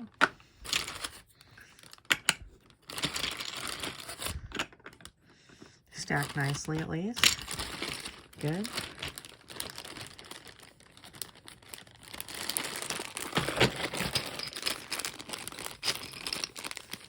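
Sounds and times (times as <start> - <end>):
plastic packaging crinkling: 0.7 - 4.4, 6.0 - 17.0.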